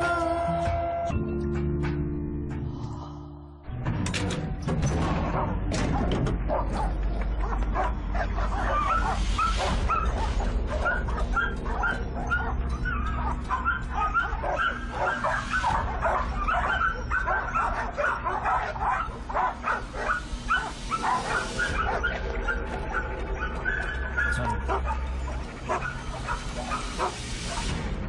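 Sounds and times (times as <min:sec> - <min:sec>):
dogs barking and whining: 0:05.1 - 0:27.9.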